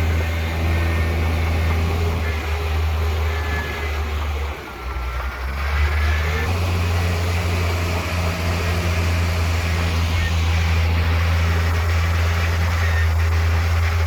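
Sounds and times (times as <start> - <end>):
heavy diesel machinery engine: 0.0 - 14.0.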